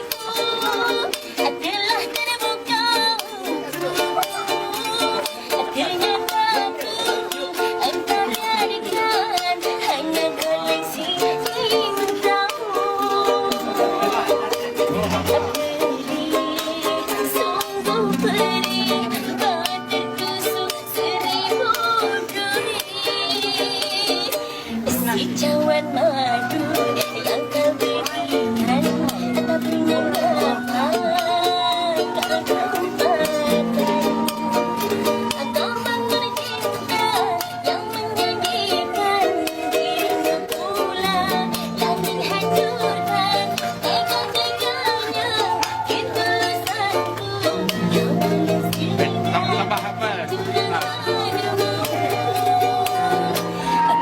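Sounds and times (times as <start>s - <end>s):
strummed small string instrument: 0.0s - 54.0s
woman singing with vibrato: 0.0s - 54.0s.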